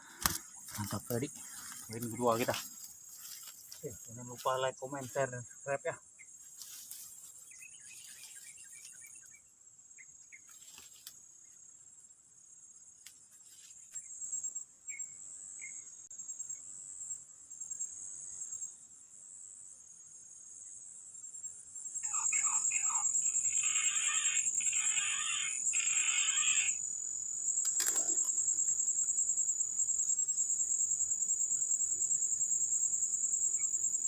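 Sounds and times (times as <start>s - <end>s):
insect chorus trilling: 0.0s - 18.9s, 19.7s - 34.0s.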